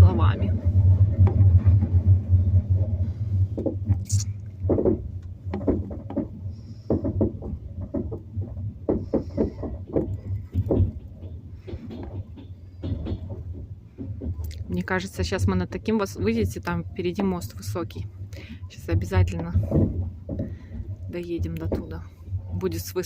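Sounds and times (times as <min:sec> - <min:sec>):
train carriage rumble: 0:00.0 - 0:23.0
wheels knocking on track: 0:00.0 - 0:23.0.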